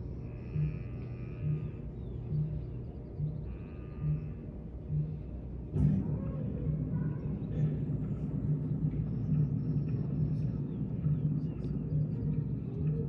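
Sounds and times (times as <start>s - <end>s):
low continuous rumble: 0.0s - 13.0s.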